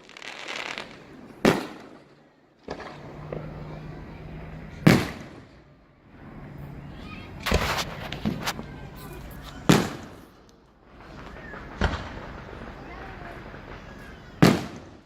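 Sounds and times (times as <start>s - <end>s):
small fireworks pops: 0.0s - 3.9s, 4.7s - 5.7s, 7.4s - 15.0s
fireworks booming: 0.0s - 15.0s.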